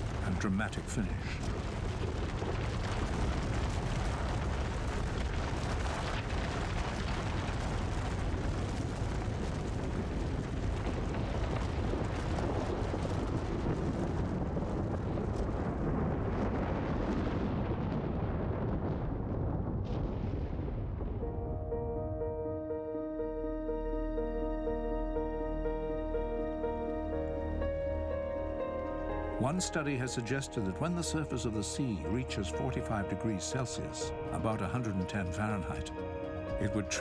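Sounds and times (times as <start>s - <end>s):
rock and ice collapsing rumble: 0.0s - 37.0s.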